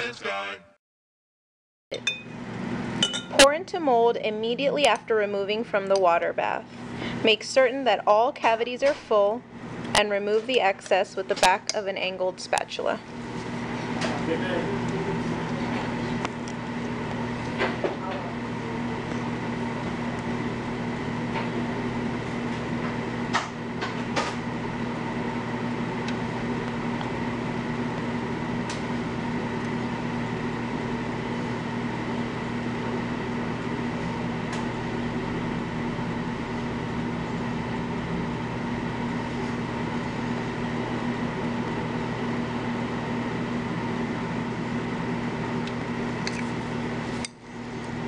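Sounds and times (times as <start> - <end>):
steady mechanical hum: 1.9 - 48.0.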